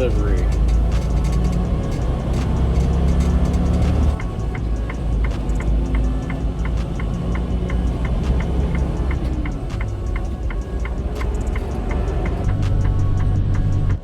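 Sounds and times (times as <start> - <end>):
flasher relay ticking: 0.0 - 13.8
truck engine rumble: 0.0 - 14.0.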